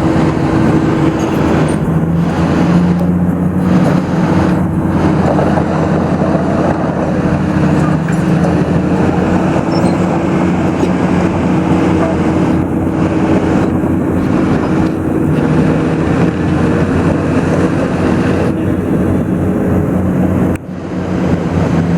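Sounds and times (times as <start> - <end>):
dump truck diesel engine running: 0.0 - 21.9.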